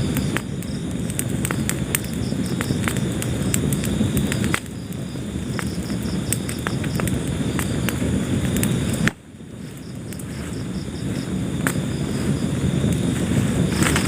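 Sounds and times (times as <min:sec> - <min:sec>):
fire crackling and popping: 0:00.0 - 0:14.0
wood fire rumbling: 0:00.0 - 0:14.0.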